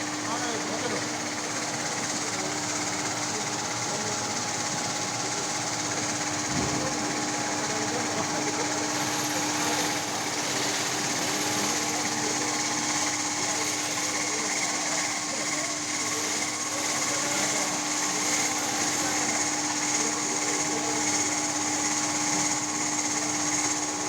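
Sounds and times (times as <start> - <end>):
wire saw machine running: 0.0 - 24.0.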